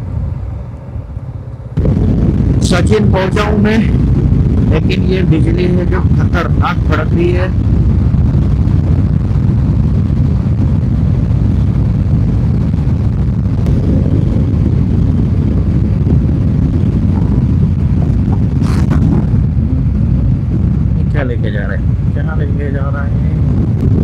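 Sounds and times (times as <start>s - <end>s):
motorcycle engine and road noise: 0.0s - 24.0s
wind buffeting microphone: 0.0s - 24.0s.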